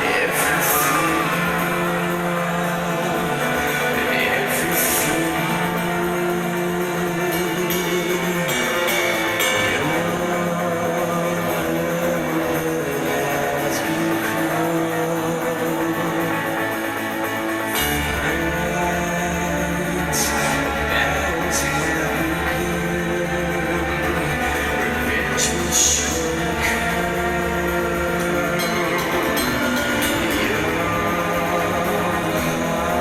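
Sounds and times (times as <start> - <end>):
guitar chords: 0.0 - 33.0
heavy low bass: 0.0 - 33.0.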